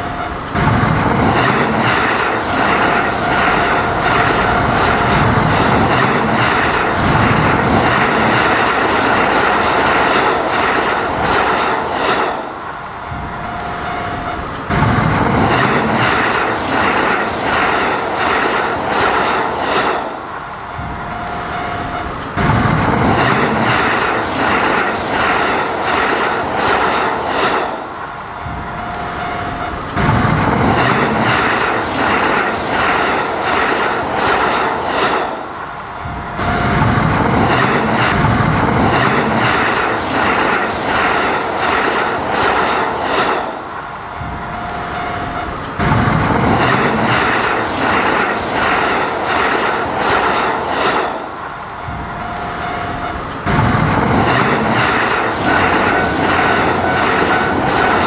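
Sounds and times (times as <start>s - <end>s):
train clicking on rails: 0.0s - 58.0s.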